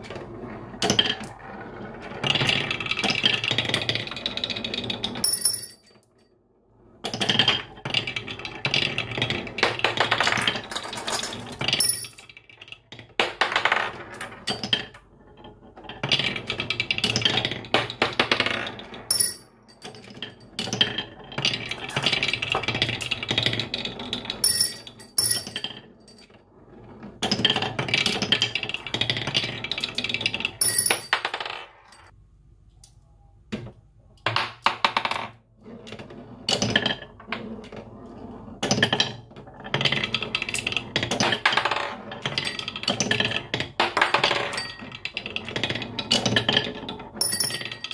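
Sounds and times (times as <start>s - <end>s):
marbles rolling on wooden track: 0.0s - 32.2s, 34.2s - 47.9s.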